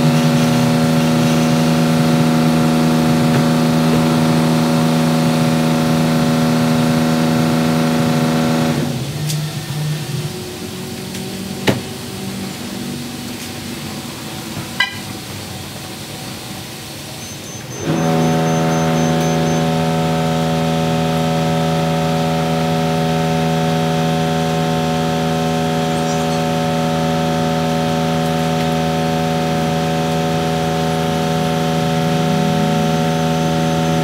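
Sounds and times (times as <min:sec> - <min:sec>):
steady motor hum: 0:00.0 - 0:34.0.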